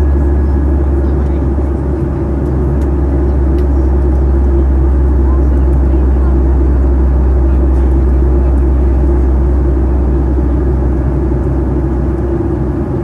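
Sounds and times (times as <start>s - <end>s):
jet engine drone: 0.0s - 13.0s.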